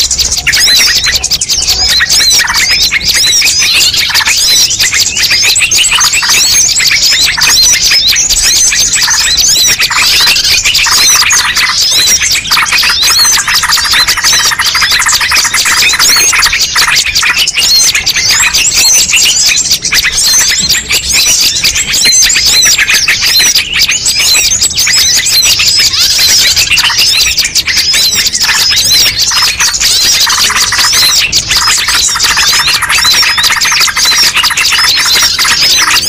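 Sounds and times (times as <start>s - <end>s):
songbirds chirping and twittering: 0.0s - 36.0s.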